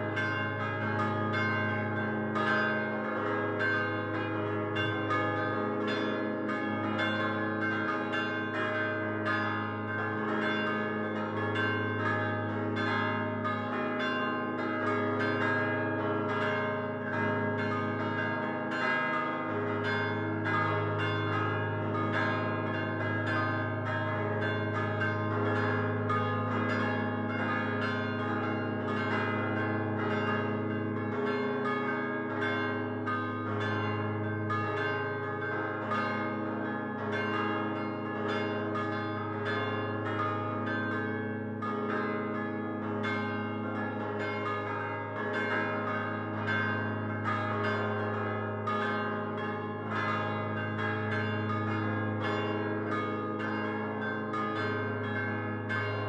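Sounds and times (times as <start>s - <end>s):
church bells ringing a full peal: 0.0s - 56.0s.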